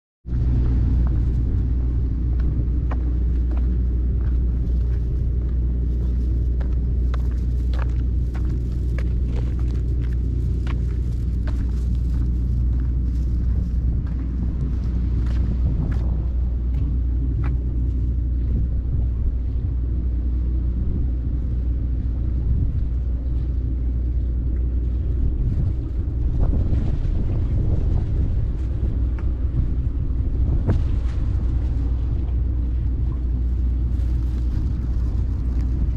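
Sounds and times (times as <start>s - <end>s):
wind buffeting microphone: 0.3s - 35.9s.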